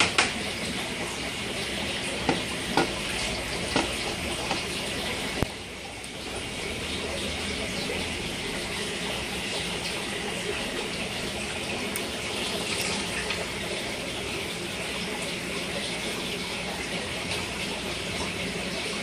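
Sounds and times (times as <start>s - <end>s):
aquarium filter water rushing: 0.0s - 19.0s.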